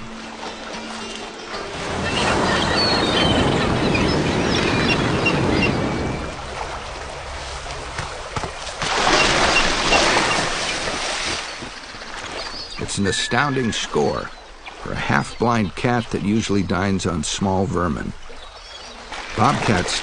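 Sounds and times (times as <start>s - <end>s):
gulls squawking: 0.0s - 20.0s.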